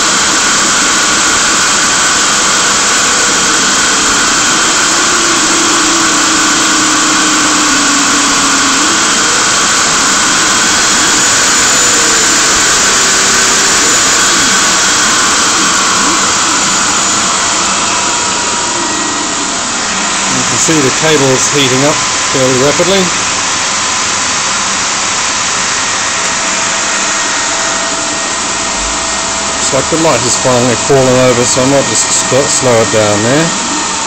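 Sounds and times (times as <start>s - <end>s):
electric motor spinning: 0.0s - 34.0s.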